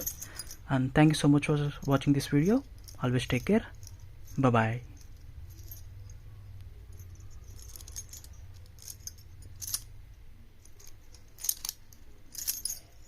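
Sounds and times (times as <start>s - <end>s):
small metal objects clinking: 0.0s - 0.7s, 1.7s - 10.0s, 10.6s - 13.0s
steady low hum: 0.0s - 13.0s.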